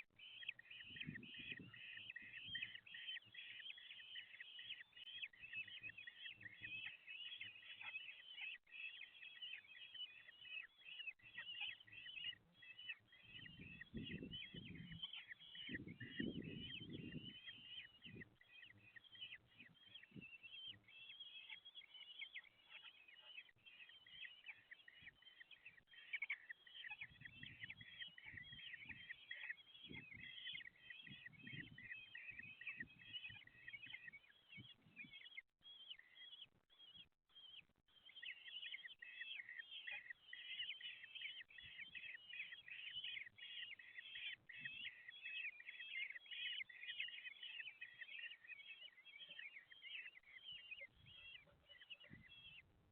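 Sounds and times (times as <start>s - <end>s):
bird chicks begging calls: 0.0s - 52.9s.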